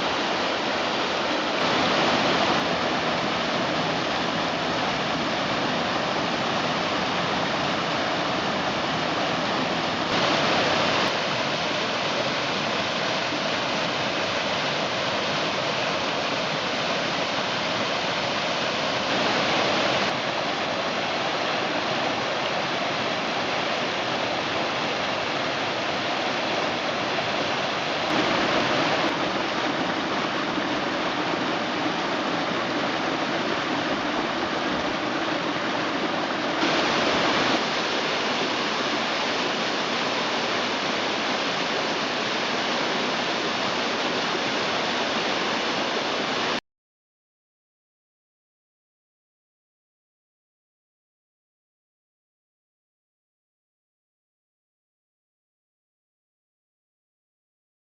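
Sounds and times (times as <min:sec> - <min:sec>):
creek water rushing: 0:00.0 - 0:46.6.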